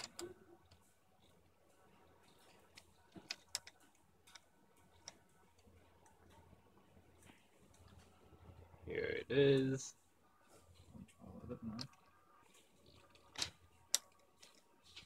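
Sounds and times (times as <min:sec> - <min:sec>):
faint motor hum: 0:00.0 - 0:15.0.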